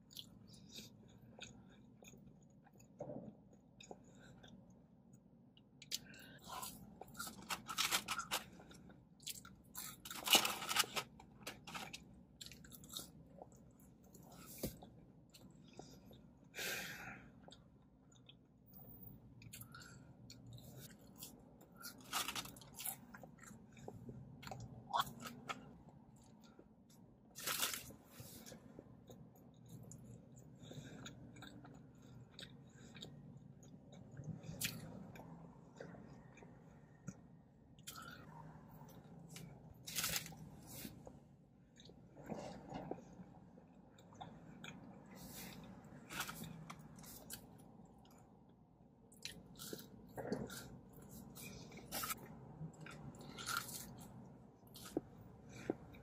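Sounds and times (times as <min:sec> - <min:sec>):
chewing a burger: 0:00.0 - 0:16.5, 0:17.4 - 0:56.0.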